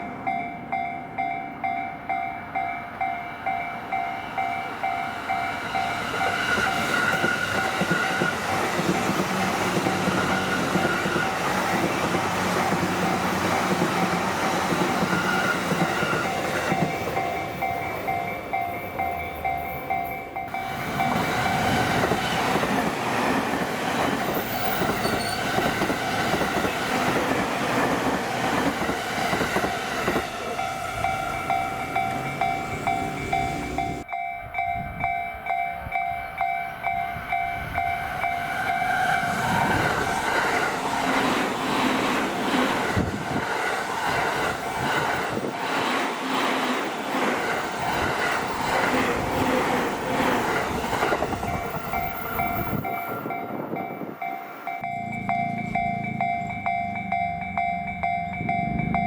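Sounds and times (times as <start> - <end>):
level-crossing warning bell: 0.0 - 59.0.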